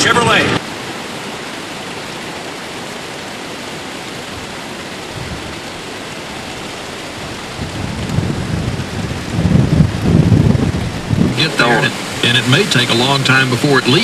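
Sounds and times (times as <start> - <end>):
heavy rain hissing: 0.0 - 14.0
running water: 0.0 - 14.0.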